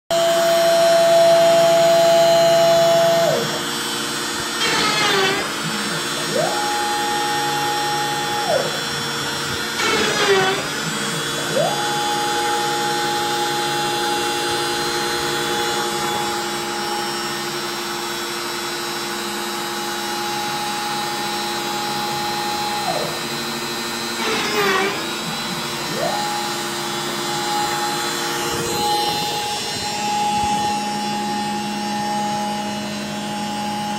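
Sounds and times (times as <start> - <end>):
router spindle whining: 0.1 - 33.9
stepper motors humming: 0.2 - 33.9.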